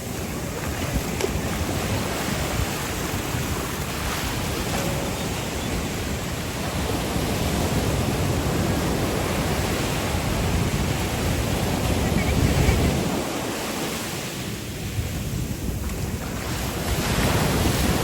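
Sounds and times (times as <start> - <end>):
waves washing onto sandy beach: 0.0 - 18.0
wind buffeting microphone: 0.0 - 18.0.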